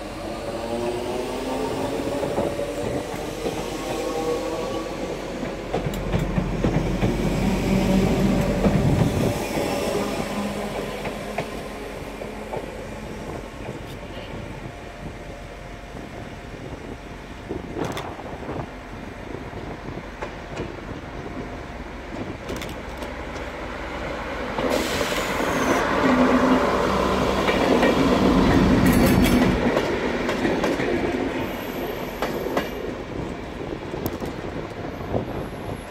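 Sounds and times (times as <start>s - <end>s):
train diesel engine: 0.0s - 35.9s.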